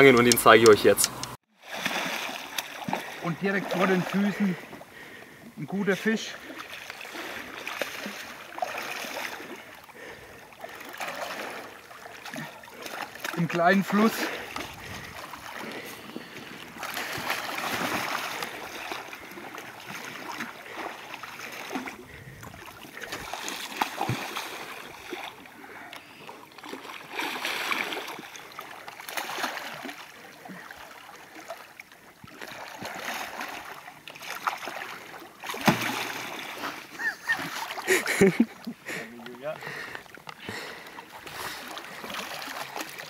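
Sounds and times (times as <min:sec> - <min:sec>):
fish thrashing and splashing: 0:01.6 - 0:05.2, 0:06.3 - 0:39.0, 0:39.6 - 0:43.0.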